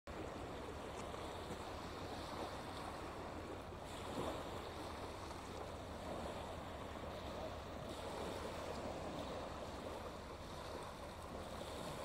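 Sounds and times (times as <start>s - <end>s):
waves lapping on pebble shore: 0.1s - 12.0s.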